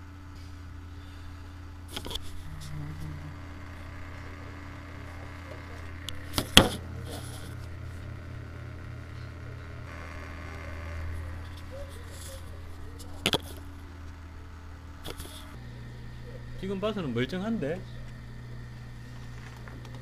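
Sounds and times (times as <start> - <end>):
computer fan whirring: 0.0 - 20.0.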